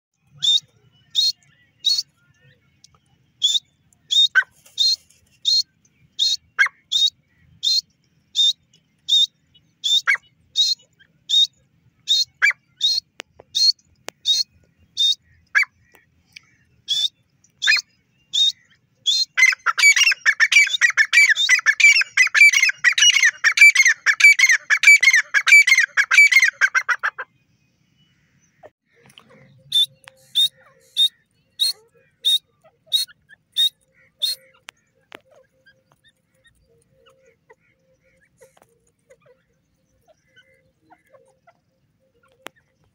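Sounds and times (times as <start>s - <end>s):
francolin calling: 0.2s - 2.4s, 3.4s - 27.2s, 28.4s - 42.9s.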